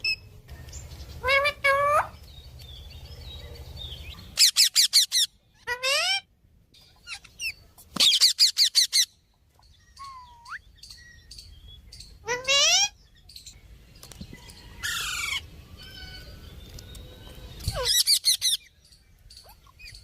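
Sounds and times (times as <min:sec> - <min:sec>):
parrot calling and chirping: 0:01.0 - 0:13.6, 0:14.8 - 0:20.0.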